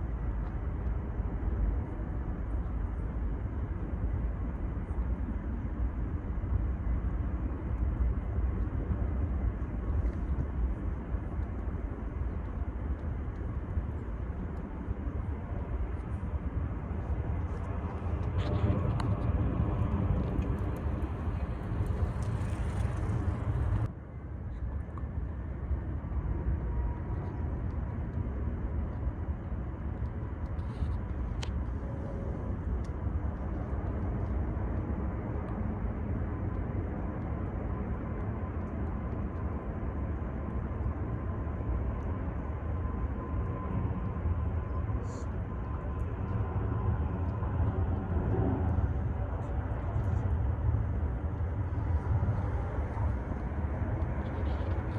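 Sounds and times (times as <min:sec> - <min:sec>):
jet airliner rumble: 0:00.0 - 0:54.9
low background rumble: 0:00.0 - 0:54.9.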